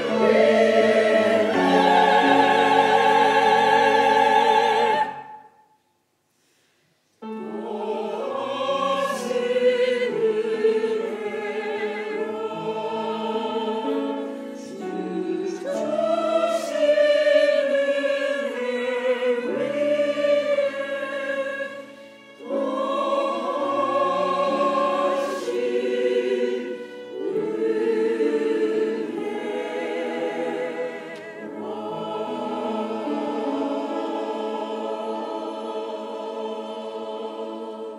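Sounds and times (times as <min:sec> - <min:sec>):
violin: 0:00.0 - 0:05.4, 0:07.2 - 0:37.9
choir singing a hymn: 0:00.0 - 0:05.6, 0:07.2 - 0:37.9
piano: 0:00.0 - 0:06.0, 0:07.2 - 0:37.9.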